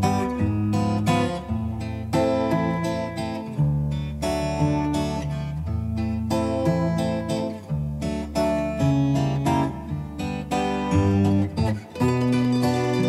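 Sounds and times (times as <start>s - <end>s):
acoustic guitar picked and strummed: 0.0s - 13.0s.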